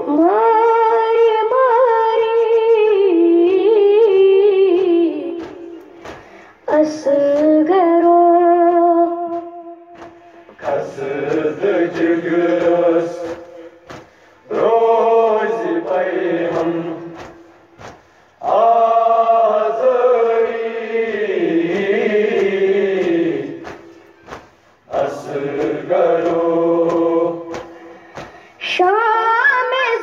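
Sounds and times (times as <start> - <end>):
sharp beats: 2.2 - 28.7.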